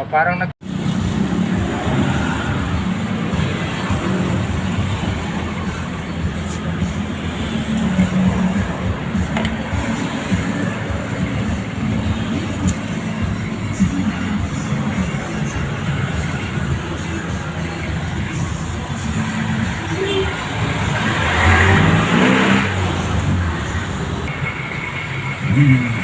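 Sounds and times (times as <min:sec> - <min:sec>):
traffic engine rumble: 0:00.0 - 0:26.0.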